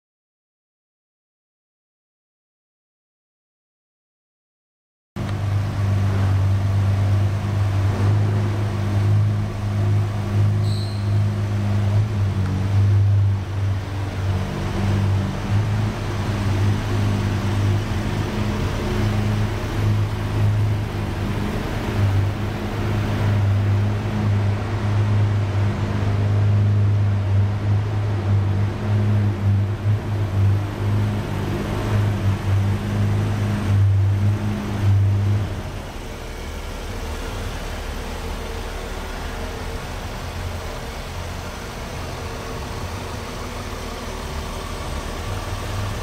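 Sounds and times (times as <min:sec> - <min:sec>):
car engine idling: 0:05.2 - 0:46.0.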